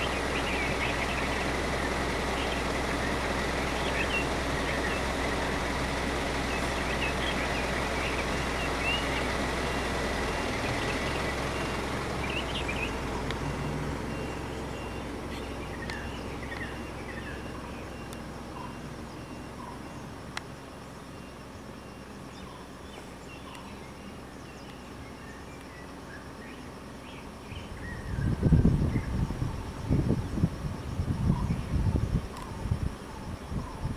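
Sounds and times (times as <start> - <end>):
birds chirping: 0.0 - 33.9
vehicle engine idling: 0.0 - 33.9.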